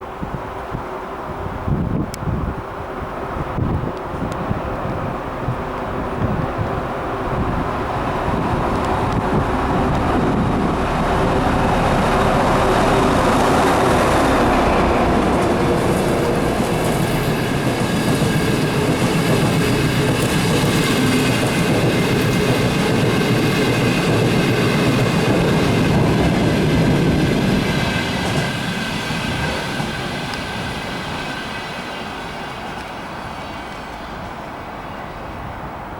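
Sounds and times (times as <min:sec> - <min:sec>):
diesel locomotive passing: 0:00.0 - 0:35.9
train wheel noise: 0:00.0 - 0:35.9.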